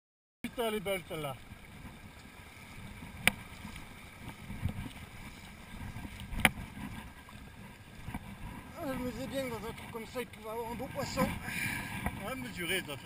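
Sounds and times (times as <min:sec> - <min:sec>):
rushing water of mountain stream: 0:00.4 - 0:13.0.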